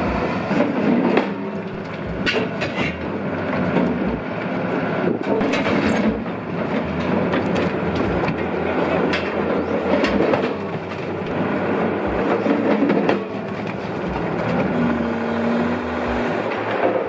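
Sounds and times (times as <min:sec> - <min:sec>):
heavy machinery running: 0:00.0 - 0:17.0
mechanical knocks: 0:00.0 - 0:17.0
steady hum: 0:00.0 - 0:17.0.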